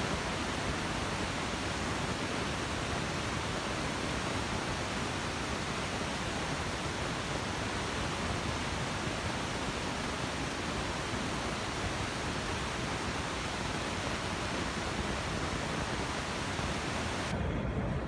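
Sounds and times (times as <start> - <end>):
subway station ambience: 0.0 - 18.0.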